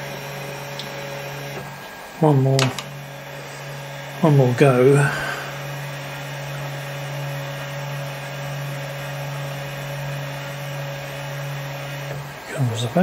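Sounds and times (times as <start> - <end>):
stepper motor humming and whining: 0.0 - 13.0.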